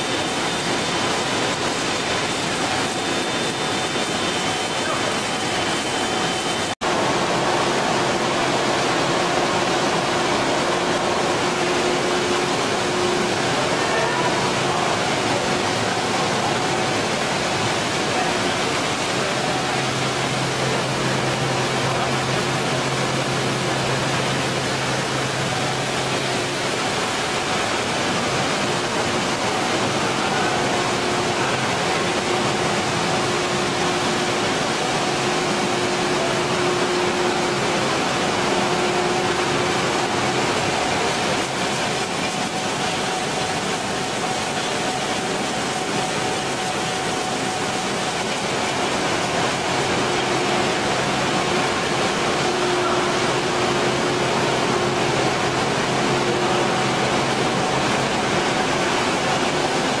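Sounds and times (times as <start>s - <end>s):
machinery rushing noise: 0.0s - 60.0s.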